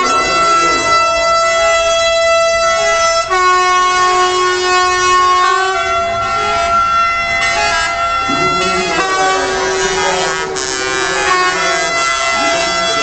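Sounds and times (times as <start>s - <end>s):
truck air horns chord: 0.0s - 13.0s.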